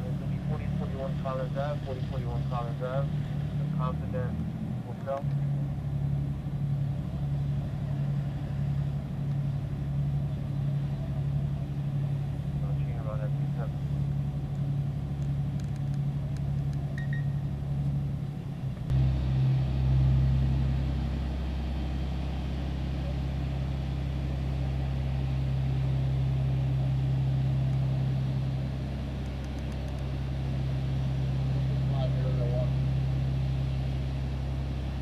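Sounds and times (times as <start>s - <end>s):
engine droning: 0.0s - 35.0s.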